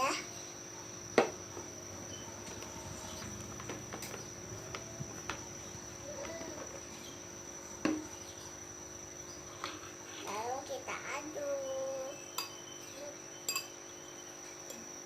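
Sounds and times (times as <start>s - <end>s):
cricket drone: 0.0s - 15.0s.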